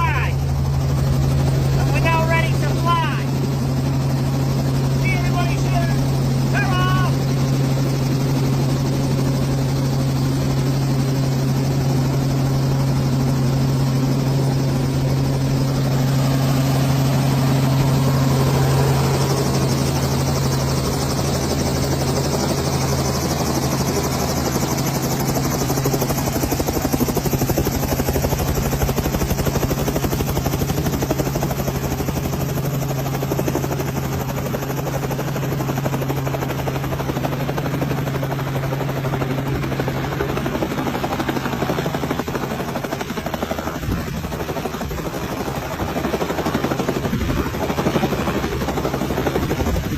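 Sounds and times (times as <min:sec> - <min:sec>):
helicopter engine and rotor drone: 0:00.0 - 0:49.9.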